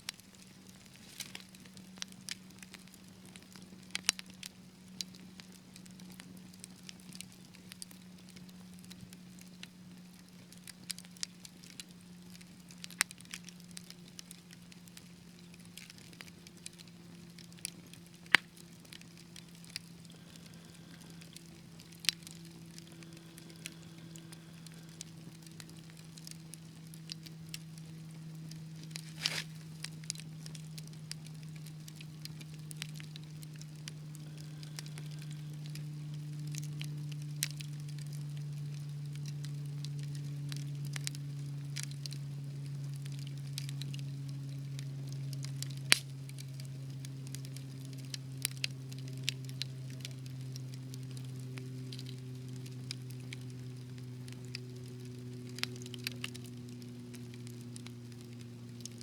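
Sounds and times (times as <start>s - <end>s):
fire crackling and popping: 0.0s - 59.0s
steady low hum: 0.0s - 59.0s.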